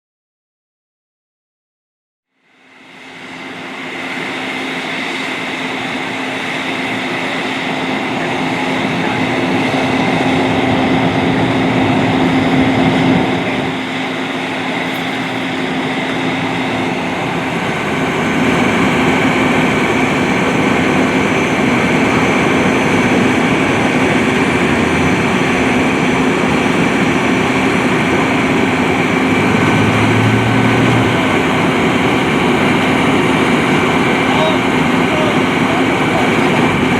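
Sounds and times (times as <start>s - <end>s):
vehicle engine humming: 3.0s - 36.9s.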